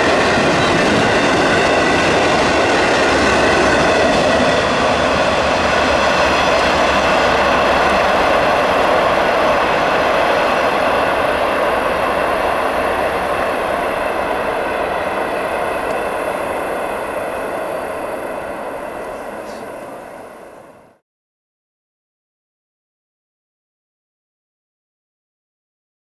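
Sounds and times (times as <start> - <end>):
train wheels rolling on rails: 0.0 - 21.0.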